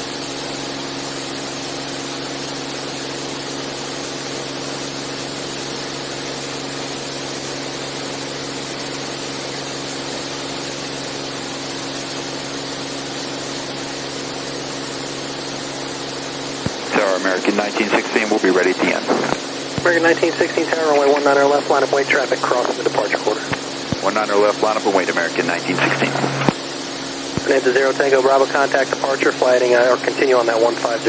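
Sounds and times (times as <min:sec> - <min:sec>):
propeller aircraft engine droning: 0:00.0 - 0:31.0.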